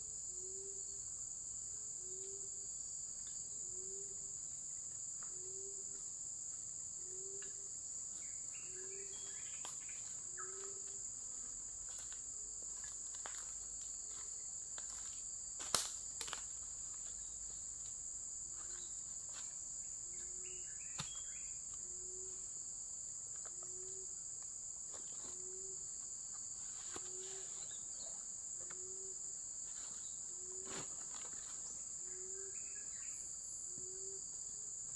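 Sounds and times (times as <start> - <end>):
high-pitched insect chorus: 0.0 - 34.9.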